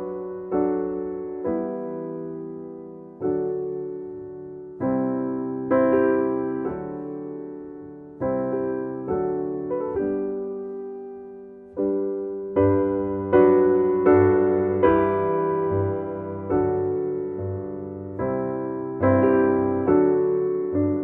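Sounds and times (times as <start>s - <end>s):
piano playing slow chords: 0.0s - 21.0s.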